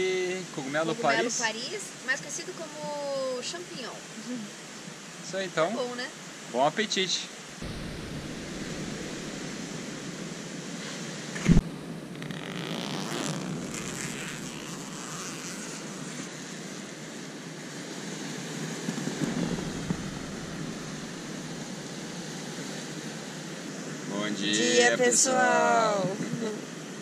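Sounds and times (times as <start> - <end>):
sea surf: 0.0 - 27.0
wind: 0.0 - 27.0.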